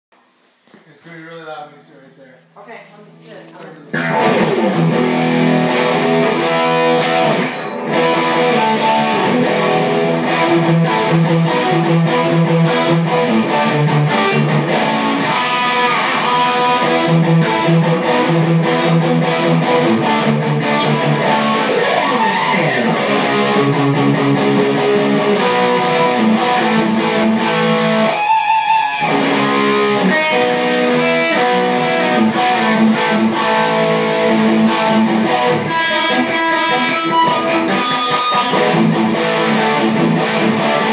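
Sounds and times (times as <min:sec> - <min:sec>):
electric guitar playing: 0:03.6 - 0:40.9.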